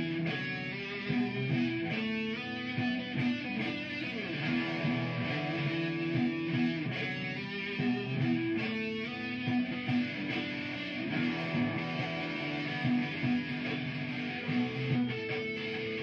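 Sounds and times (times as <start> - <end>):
electric guitar solo: 0.0 - 16.0
looped guitar part: 0.0 - 16.0.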